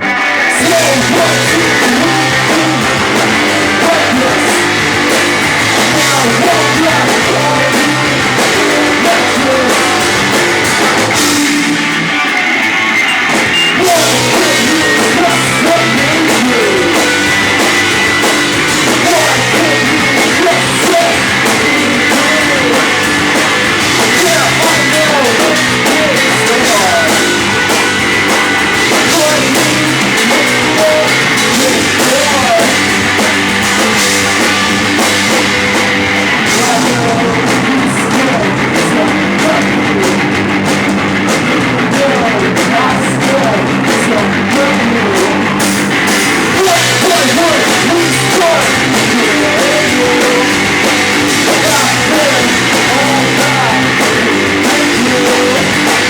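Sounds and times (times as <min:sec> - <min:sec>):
person singing: 0:00.0 - 0:34.8, 0:36.3 - 0:40.3, 0:41.3 - 0:45.6, 0:46.4 - 0:56.0
drum kit: 0:00.0 - 0:56.0
electric guitar: 0:00.0 - 0:56.0.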